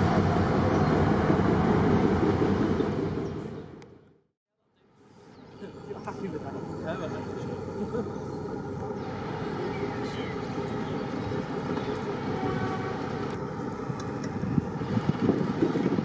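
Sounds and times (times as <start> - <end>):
diesel locomotive rumble: 0.0 - 4.0, 5.0 - 16.0.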